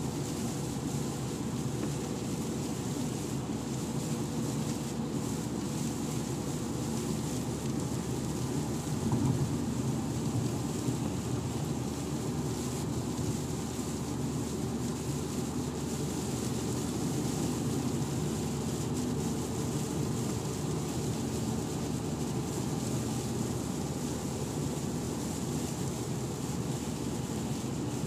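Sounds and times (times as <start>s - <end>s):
car interior road drone: 0.0s - 28.0s.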